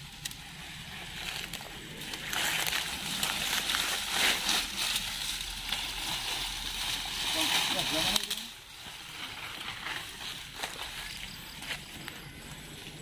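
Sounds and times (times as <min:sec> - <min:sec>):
dry branches and leaves crackling: 0:00.0 - 0:13.0.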